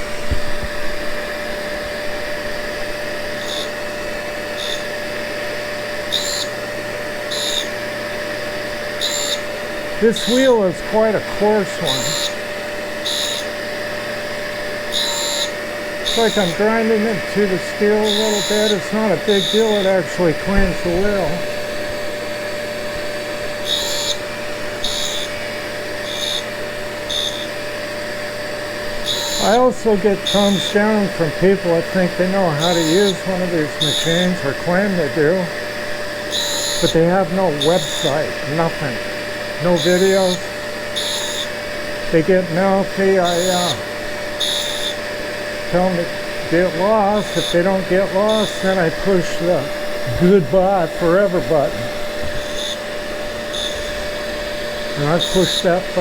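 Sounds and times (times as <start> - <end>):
grinder humming and whining: 0.0 - 56.0
high hiss of tool grinding: 0.0 - 56.0.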